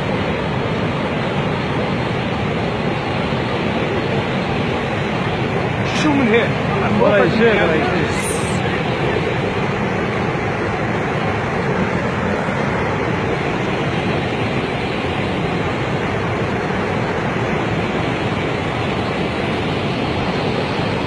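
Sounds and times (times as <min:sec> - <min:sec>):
flood water rushing: 0:00.0 - 0:21.0.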